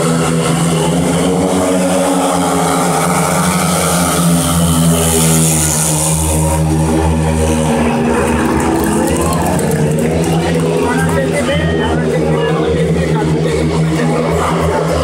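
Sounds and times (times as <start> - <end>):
motorcycles racing at full throttle: 0.0 - 15.0.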